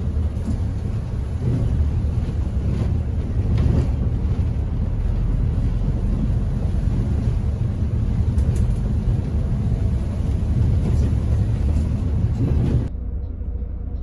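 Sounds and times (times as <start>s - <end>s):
diesel coach low rumble: 0.0s - 14.0s.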